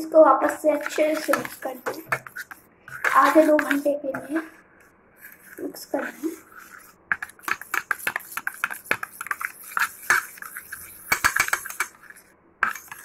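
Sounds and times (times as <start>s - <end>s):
metal spoon stirring in steel bowl: 0.3s - 4.6s, 5.2s - 13.0s.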